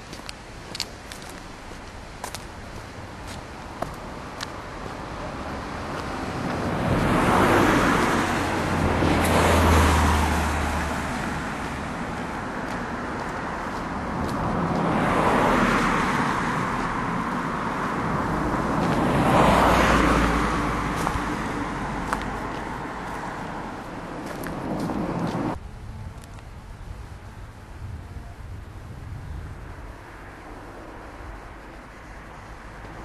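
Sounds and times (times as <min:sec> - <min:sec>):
cars passing by: 0:00.0 - 0:33.0.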